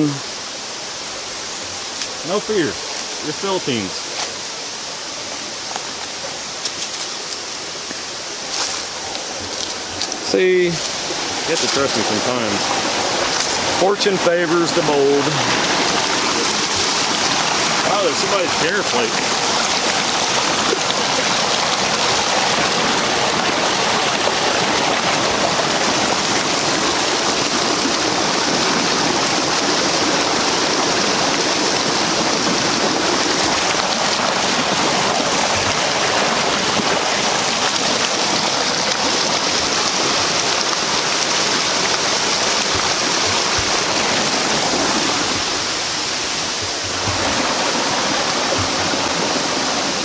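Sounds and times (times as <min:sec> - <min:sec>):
river water rushing: 0:00.0 - 0:50.0.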